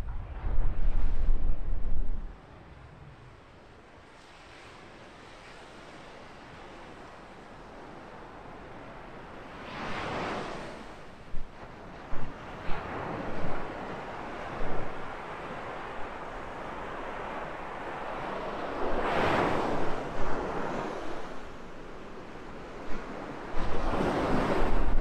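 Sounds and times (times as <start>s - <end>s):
surf breaking on a beach: 0.0s - 25.0s
wind rumbling on microphone: 0.0s - 25.0s.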